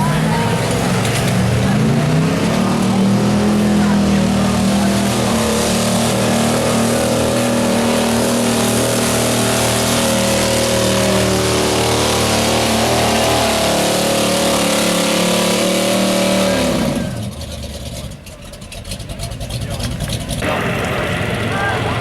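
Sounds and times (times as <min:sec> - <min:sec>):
truck engine at high revs: 0:00.0 - 0:22.0.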